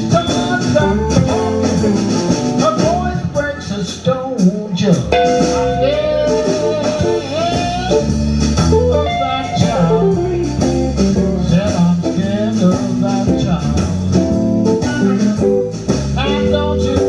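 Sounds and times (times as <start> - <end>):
electric guitar: 0.0 - 17.0
live blues-rock band: 0.0 - 17.0.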